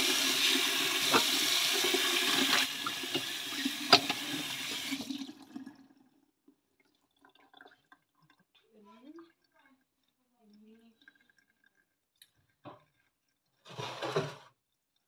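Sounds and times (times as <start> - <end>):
tap water running into sink: 0.0 - 6.1, 6.8 - 14.6.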